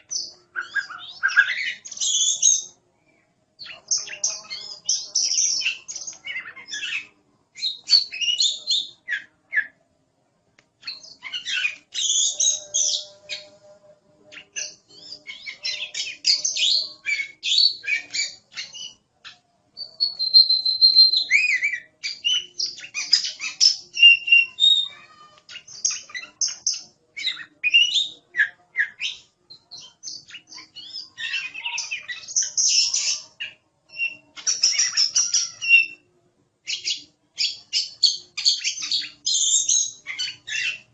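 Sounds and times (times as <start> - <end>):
songbird chirps and whistles: 0.0 - 9.8, 10.8 - 13.6, 14.2 - 40.9.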